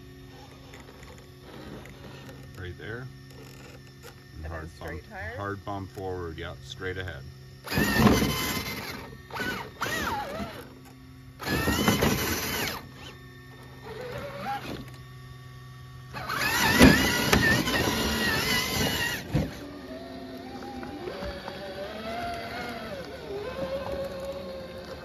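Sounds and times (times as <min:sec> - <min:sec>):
toy car electric motor whining: 0:00.0 - 0:25.0.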